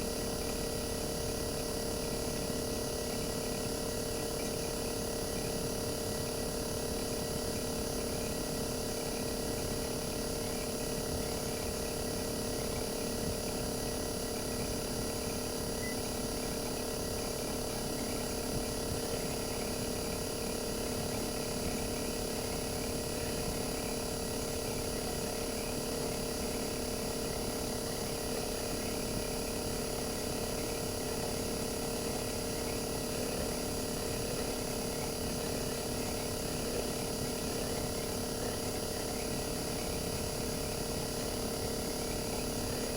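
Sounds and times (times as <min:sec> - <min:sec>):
air conditioner compressor humming: 0:00.0 - 0:42.9.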